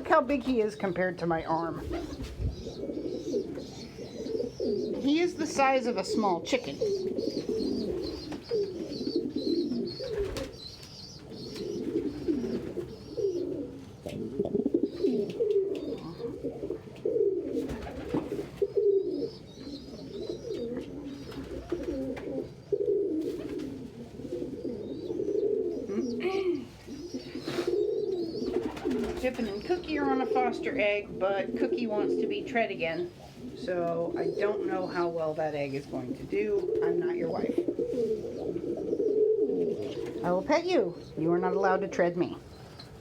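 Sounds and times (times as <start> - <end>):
pigeons cooing: 0.0 - 43.0.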